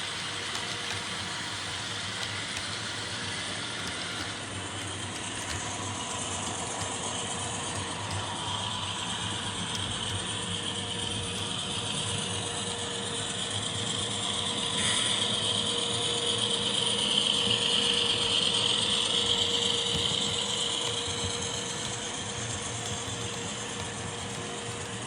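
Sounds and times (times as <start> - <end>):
model train motor whine: 0.0 - 25.0.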